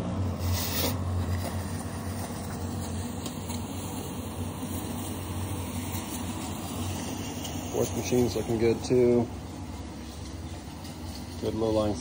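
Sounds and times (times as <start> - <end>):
fog machine humming and hissing: 0.0 - 12.0.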